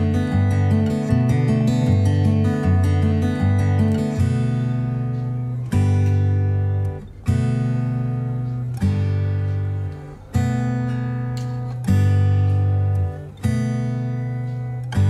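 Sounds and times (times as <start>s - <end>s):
slow lullaby chords: 0.0s - 15.0s.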